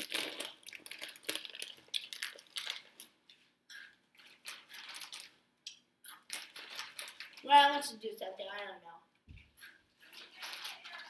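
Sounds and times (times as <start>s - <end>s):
snack rustling and crunching: 0.0s - 7.4s, 9.5s - 11.0s.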